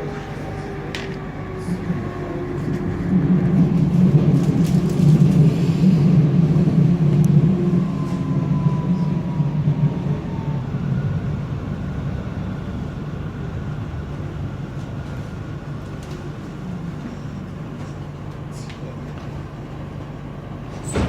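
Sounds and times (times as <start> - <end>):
train rumble on rails: 0.0 - 21.0.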